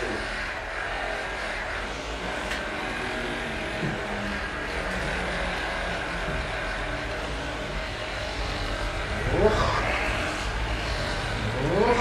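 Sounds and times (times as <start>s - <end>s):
massage gun motors buzzing: 0.0s - 12.0s.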